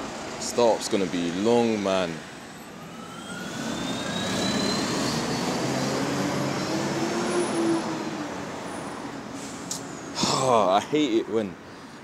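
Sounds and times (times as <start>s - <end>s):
bus pulling away with whine: 0.0s - 10.4s.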